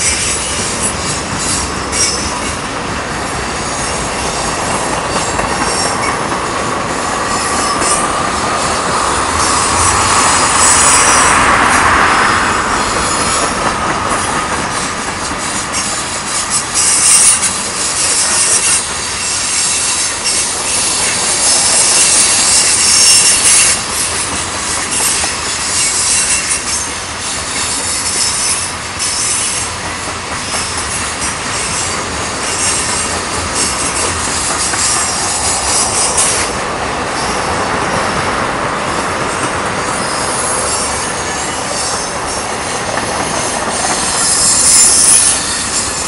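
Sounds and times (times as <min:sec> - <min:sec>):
high-pitched wheel squeal: 0:00.0 - 0:02.6, 0:03.2 - 0:46.0
train wheels rumbling on track: 0:00.0 - 0:46.0.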